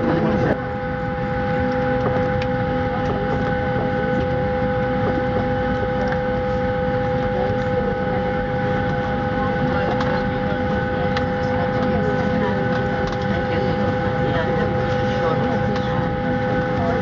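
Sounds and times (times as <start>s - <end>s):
airplane cabin turbine whine: 0.0s - 17.0s.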